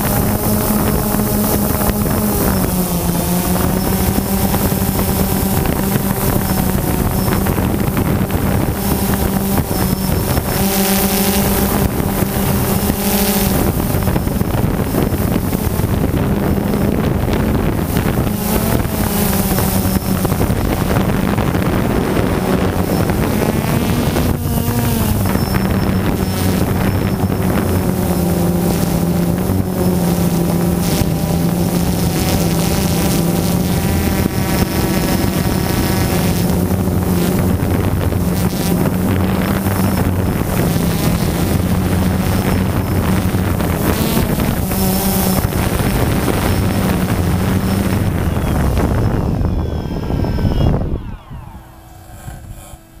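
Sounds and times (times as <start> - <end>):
drone motors humming: 0.0 - 53.0.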